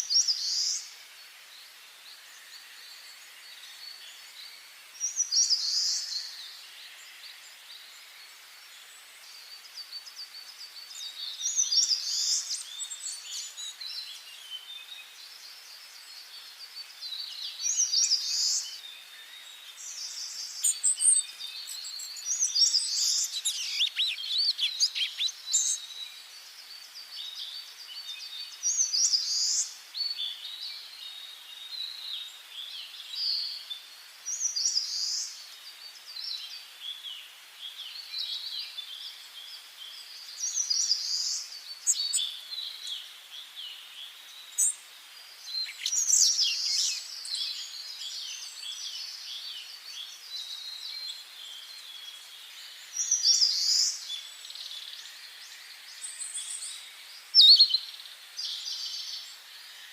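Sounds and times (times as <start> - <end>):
faint steady hiss: 0.0 - 59.9
songbirds singing and chirping: 0.0 - 59.9.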